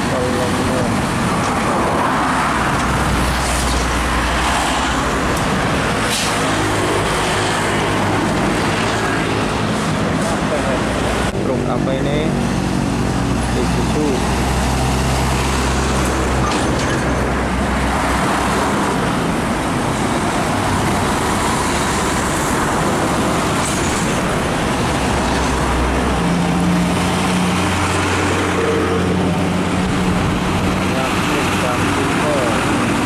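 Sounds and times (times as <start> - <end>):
diesel trucks passing: 0.0 - 33.0
truck engine hum approaching: 0.0 - 33.0
tyre and traffic noise: 0.0 - 33.0.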